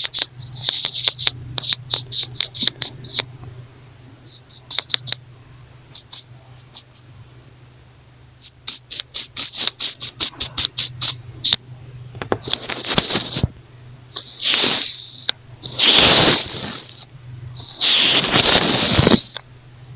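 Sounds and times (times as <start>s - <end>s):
faint low hum: 0.0s - 18.2s, 19.3s - 19.9s.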